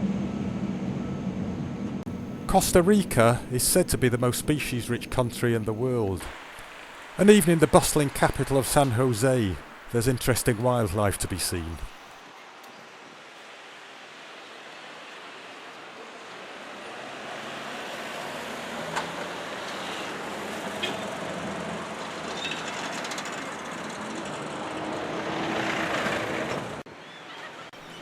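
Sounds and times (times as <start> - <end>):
city street traffic: 2.0 - 28.0.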